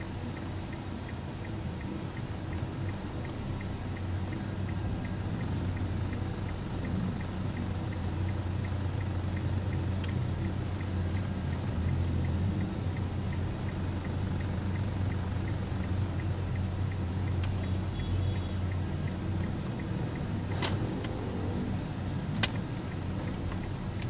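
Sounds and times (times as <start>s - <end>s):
car engine and road hum: 0.0s - 24.0s.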